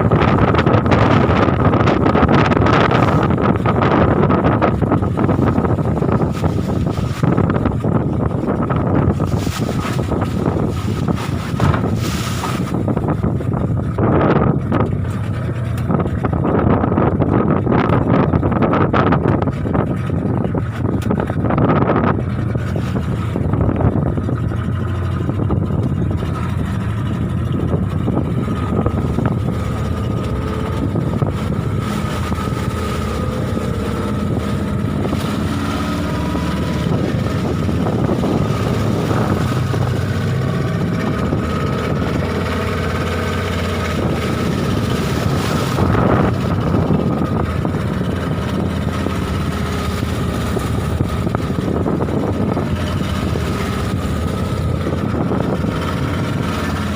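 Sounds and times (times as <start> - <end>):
boat motor running: 0.0 - 56.9.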